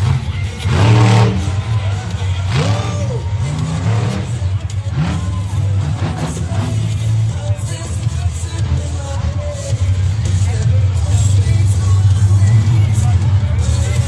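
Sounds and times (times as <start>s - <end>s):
loud background music: 0.0s - 14.0s
truck engine revving: 0.0s - 14.0s.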